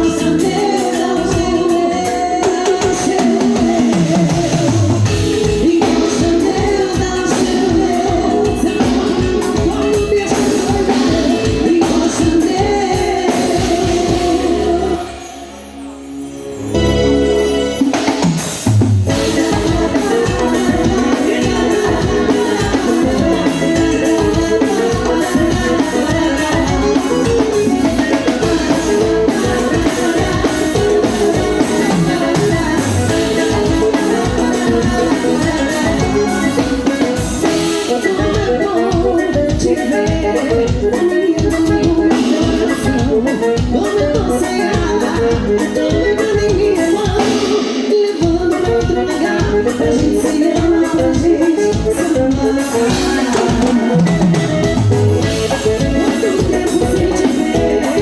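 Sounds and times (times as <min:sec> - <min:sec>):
drum kit beat: 0:00.0 - 0:15.1, 0:16.8 - 0:58.0
live band music: 0:00.0 - 0:58.0.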